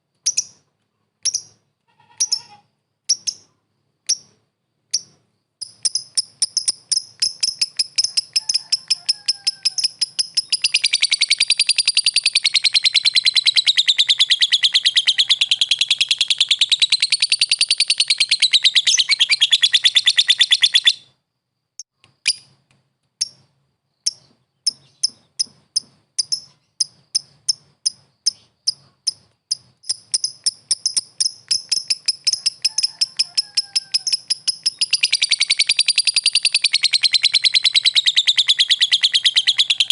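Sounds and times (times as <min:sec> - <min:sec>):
lovebird shrill chirps: 0:01.2 - 0:03.5, 0:04.9 - 0:21.2, 0:24.0 - 0:39.9.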